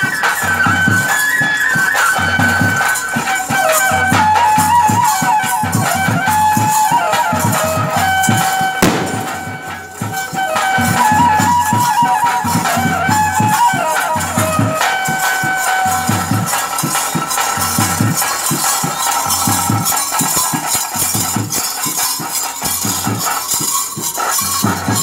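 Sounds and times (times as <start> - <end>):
fast drumming: 0.0 - 25.0
jingling rattles or bells: 0.0 - 25.0
shrill reed pipe melody: 0.1 - 21.1.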